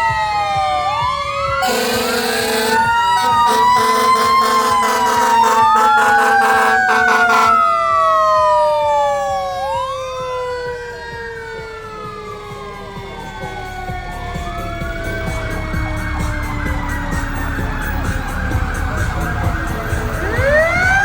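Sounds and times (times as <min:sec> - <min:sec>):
electronic wailing siren: 0:00.0 - 0:21.0
rapid pulsing siren: 0:00.0 - 0:21.0
descending siren tone: 0:00.2 - 0:21.0.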